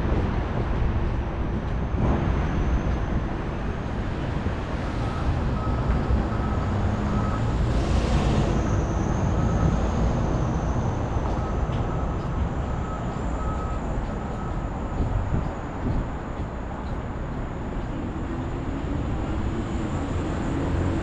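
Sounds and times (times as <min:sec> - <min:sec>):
passing vehicles rumble: 0:00.0 - 0:21.0.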